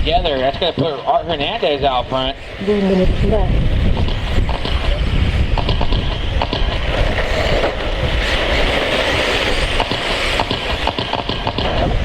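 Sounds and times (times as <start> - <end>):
wind on microphone: 0.0 - 12.0
electric motors whirring: 0.3 - 12.0.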